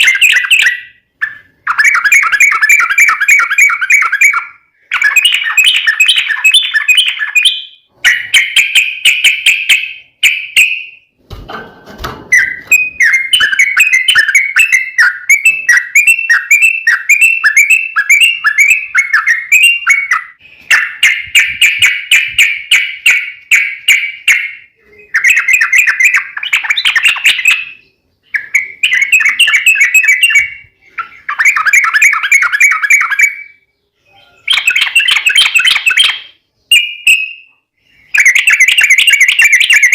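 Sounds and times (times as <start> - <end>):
bulbul singing: 0.0 - 11.1, 12.3 - 39.9.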